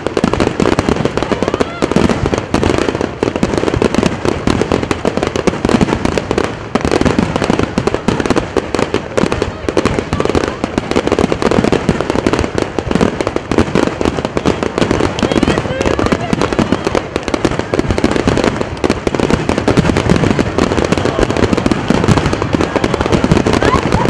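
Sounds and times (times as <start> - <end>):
fireworks bursting with crackle: 0.0 - 24.0.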